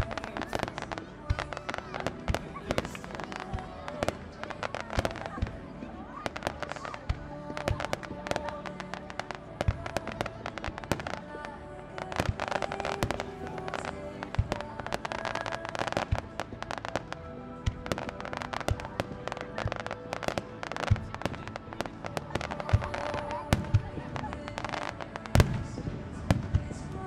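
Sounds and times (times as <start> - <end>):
music: 0.0 - 27.0.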